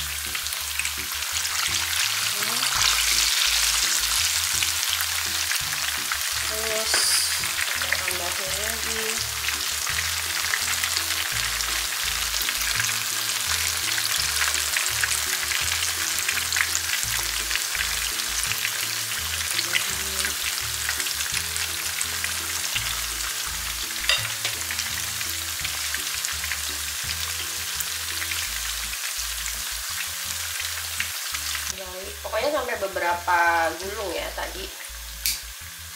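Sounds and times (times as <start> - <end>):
hot oil sizzling and crackling: 0.0 - 35.9.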